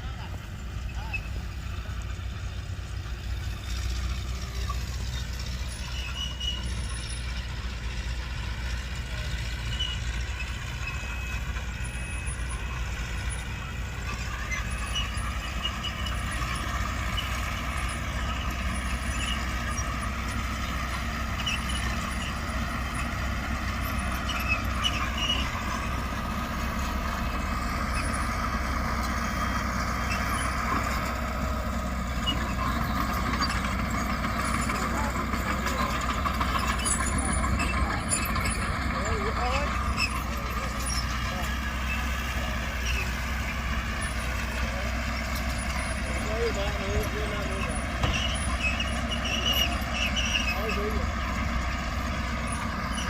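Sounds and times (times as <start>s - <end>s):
heavy machinery diesel engine: 0.0s - 53.0s
light squeaks: 0.2s - 53.0s.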